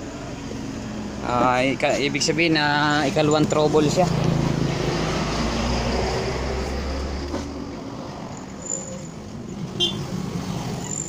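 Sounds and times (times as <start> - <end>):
low traffic rumble: 0.0 - 11.0
traffic humming: 0.0 - 11.0.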